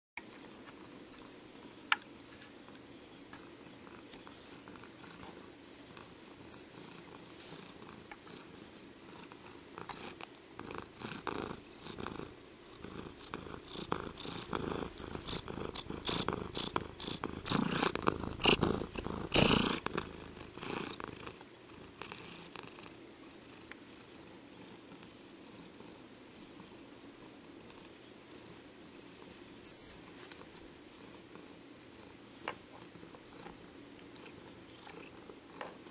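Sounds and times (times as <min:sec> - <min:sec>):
cat purring: 0:02.5 - 0:35.9.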